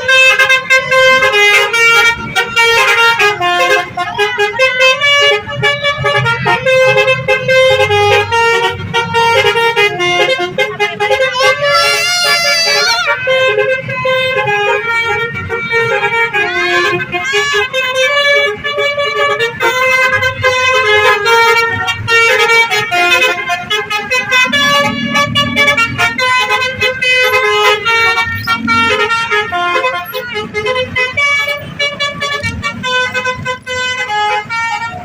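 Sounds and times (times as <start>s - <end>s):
musical bus air horns: 0.0s - 35.0s.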